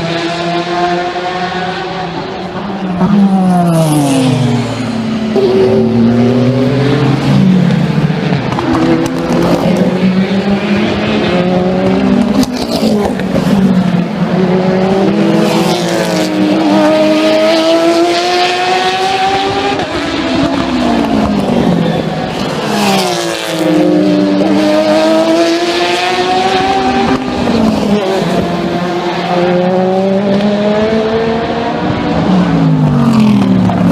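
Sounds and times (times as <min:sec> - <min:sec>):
race cars passing at full throttle: 0:00.0 - 0:33.9.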